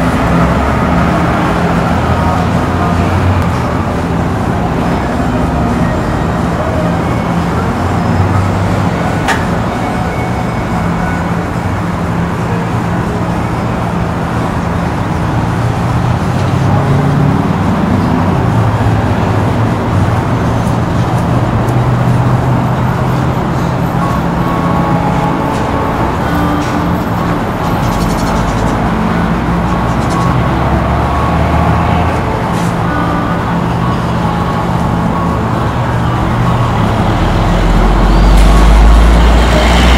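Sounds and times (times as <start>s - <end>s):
road traffic noise: 0.0s - 39.9s
vehicle engine humming: 0.0s - 39.9s.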